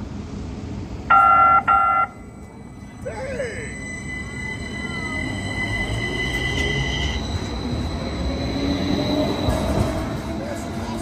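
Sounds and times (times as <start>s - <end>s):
low rumble of train: 0.0s - 11.0s
train wheels squealing on rails: 1.1s - 11.0s.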